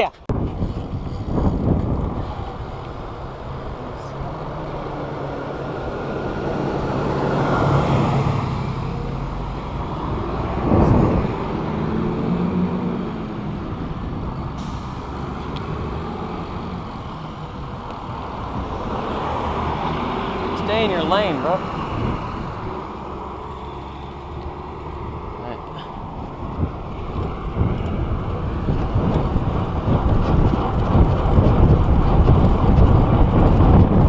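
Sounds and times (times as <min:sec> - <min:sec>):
vehicles passing on road: 0:00.0 - 0:34.0.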